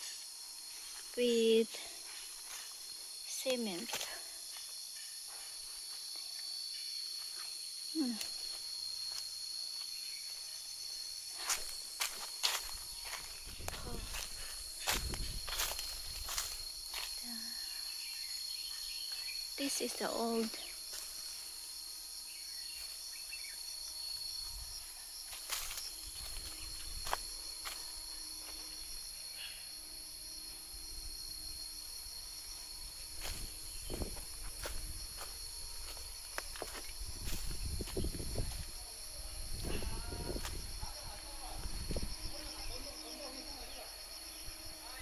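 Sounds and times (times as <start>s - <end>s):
insect chorus droning: 0.0s - 45.0s.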